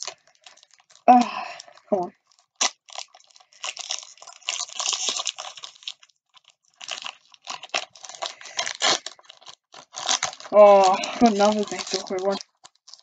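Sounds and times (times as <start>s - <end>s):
card pack wrapper crinkling: 0.0s - 13.0s.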